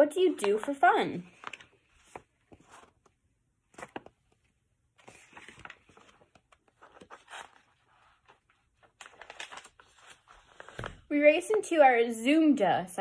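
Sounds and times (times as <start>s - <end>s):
book pages rustling: 0.2s - 11.6s.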